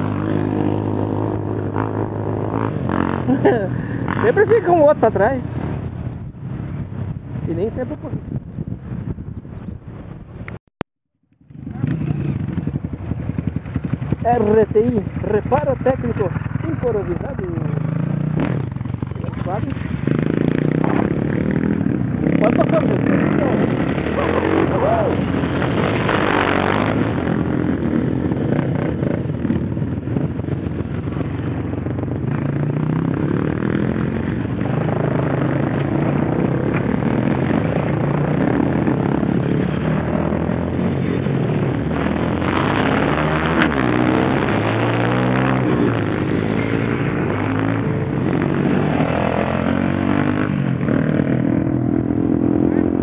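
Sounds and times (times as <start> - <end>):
quad engines: 0.0 - 8.0, 11.4 - 53.0
dirt bike engines revving: 0.0 - 10.5, 11.5 - 53.0.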